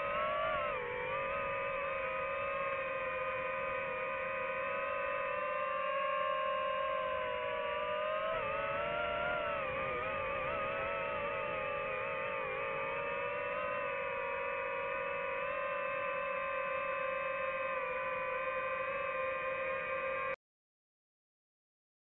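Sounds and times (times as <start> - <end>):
drone propellers whining: 0.0 - 20.4.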